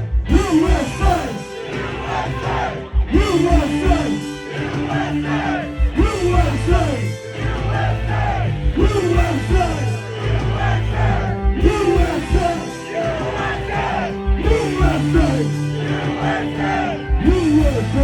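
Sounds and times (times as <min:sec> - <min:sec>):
heavy drum beat: 0:00.0 - 0:18.0
live country rap band: 0:00.0 - 0:18.0
person singing or yelling: 0:00.3 - 0:18.0.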